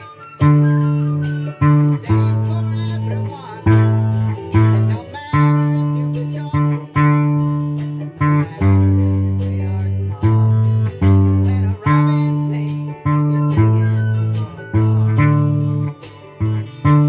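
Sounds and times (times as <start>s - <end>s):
plucked low ukulele notes: 0.0s - 17.0s.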